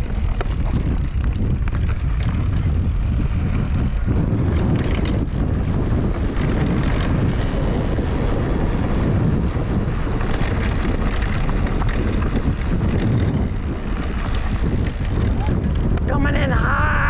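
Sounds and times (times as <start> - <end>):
bike rolling over rocky trail: 0.0 - 16.4
wind on microphone: 0.0 - 17.0.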